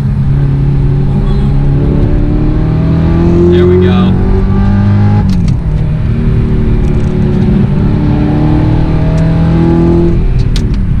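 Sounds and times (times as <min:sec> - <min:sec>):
sports car engine accelerating hard: 0:00.0 - 0:11.0.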